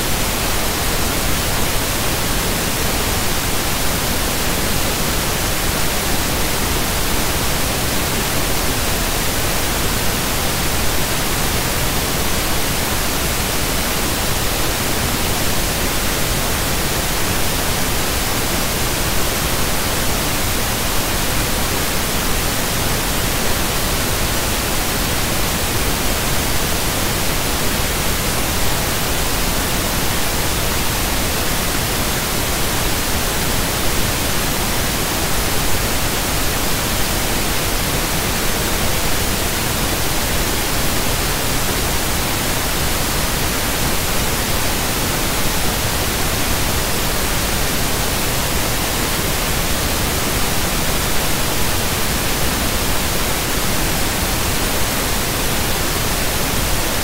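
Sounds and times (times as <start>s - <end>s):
loud static hiss: 0.0s - 57.0s.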